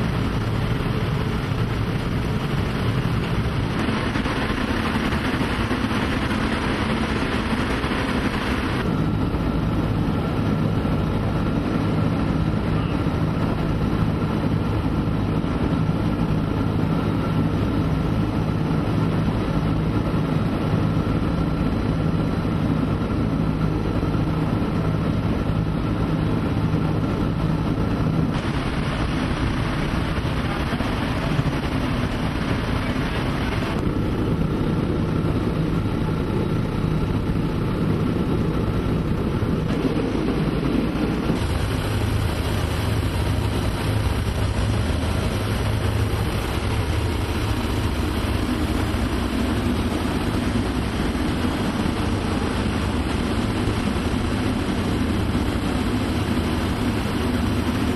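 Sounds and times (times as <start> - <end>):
aircraft engines humming: 0.0 - 57.9.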